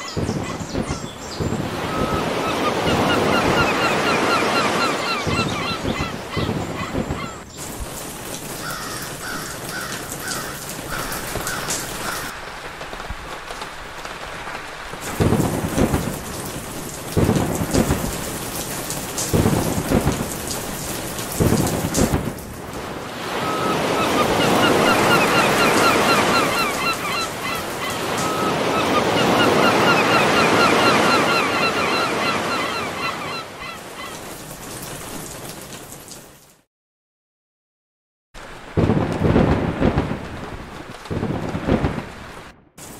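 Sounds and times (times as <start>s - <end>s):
thunder rumbles: 0.1s - 4.2s, 5.2s - 31.4s, 38.4s - 42.9s
rain hiss: 0.2s - 33.1s, 33.7s - 36.6s, 38.4s - 42.9s.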